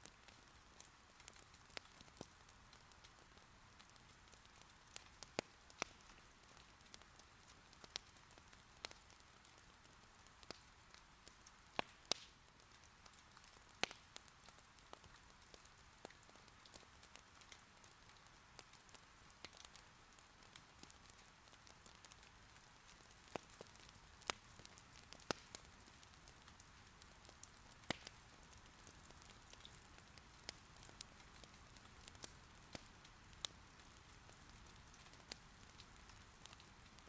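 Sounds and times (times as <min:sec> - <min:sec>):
firewood crackling and popping: 0:00.0 - 0:37.0
light rain hissing: 0:00.0 - 0:37.0.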